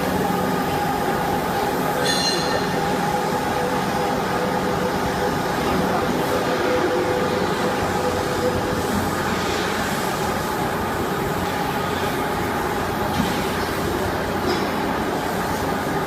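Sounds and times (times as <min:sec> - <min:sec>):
industrial machinery humming: 0:00.0 - 0:16.0.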